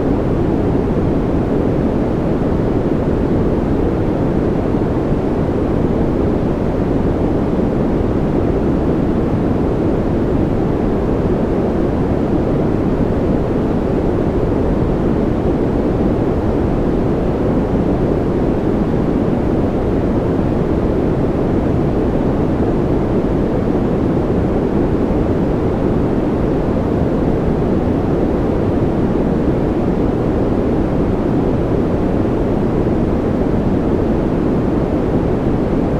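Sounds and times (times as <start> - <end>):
white noise rush: 0.0 - 35.9.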